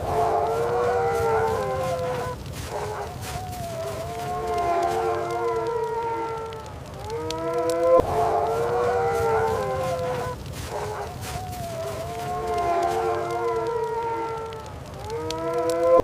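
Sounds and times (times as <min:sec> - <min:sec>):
wolves howling: 0:00.0 - 0:16.0.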